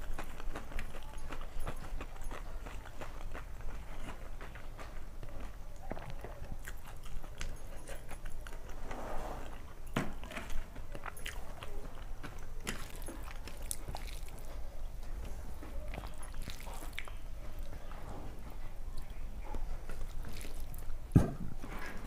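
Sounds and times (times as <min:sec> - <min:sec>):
chewing and wet mouth sounds: 0:00.0 - 0:21.2.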